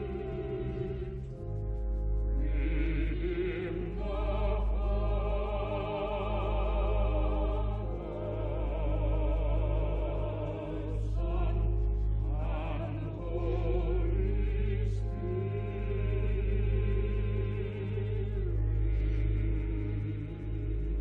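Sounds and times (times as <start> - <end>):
choir singing sustained chords: 0.0 - 21.0
steady low drone: 0.0 - 21.0.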